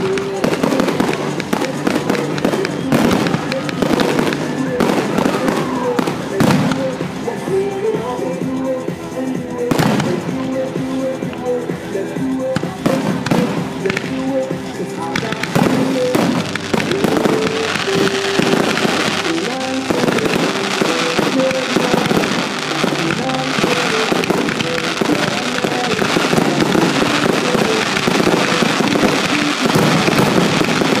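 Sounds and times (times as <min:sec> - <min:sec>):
fireworks bursting and crackling: 0:00.0 - 0:31.0
music playing: 0:00.0 - 0:31.0.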